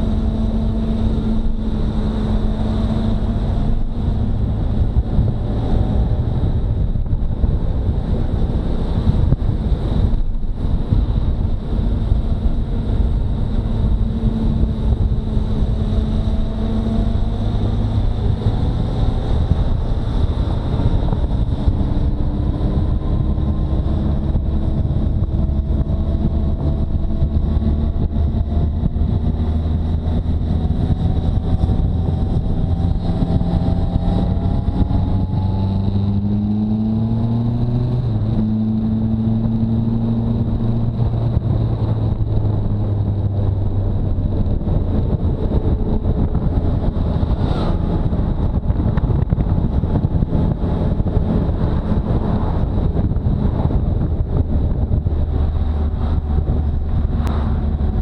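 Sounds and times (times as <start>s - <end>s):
motorcycle engine: 0.0s - 58.0s
wind noise on microphone: 0.0s - 58.0s.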